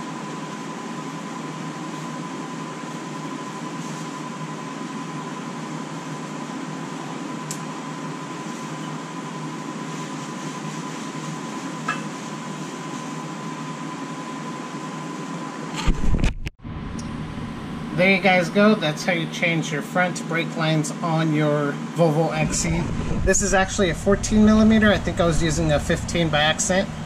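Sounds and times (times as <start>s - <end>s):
fan whirring hum: 0.0s - 27.0s.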